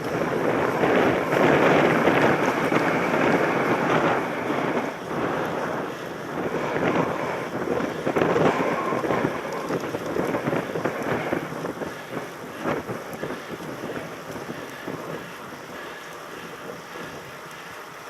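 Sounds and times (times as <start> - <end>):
bike rattling over rough ground: 0.0 - 18.0
tyre and wind noise: 0.0 - 18.0.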